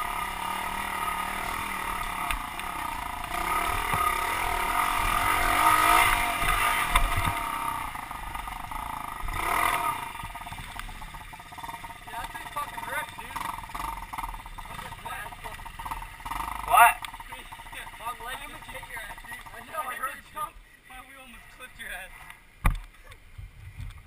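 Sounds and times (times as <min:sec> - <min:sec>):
motorbike engine revving: 0:00.0 - 0:20.2.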